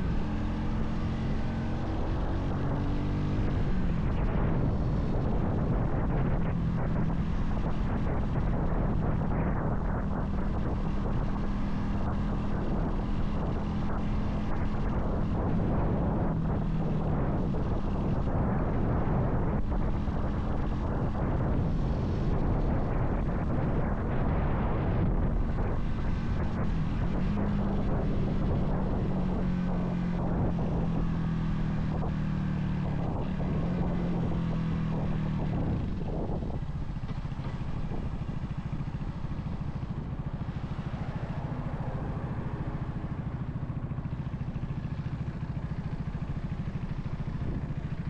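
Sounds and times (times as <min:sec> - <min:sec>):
motorcycle engine accelerating: 0:00.0 - 0:48.0
wind rushing over microphone: 0:00.0 - 0:48.0.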